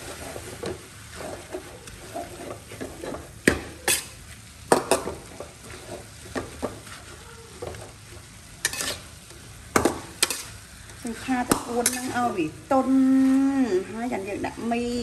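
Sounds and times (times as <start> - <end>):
metal spatula scraping wok: 0.0 - 14.8
stir-fry sizzling: 0.0 - 15.0.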